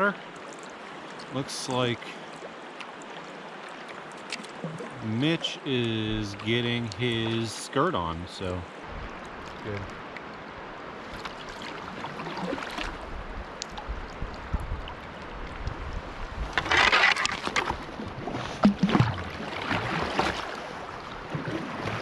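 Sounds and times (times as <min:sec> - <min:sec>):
river water rushing: 0:00.0 - 0:22.0
water splashing: 0:00.0 - 0:22.0.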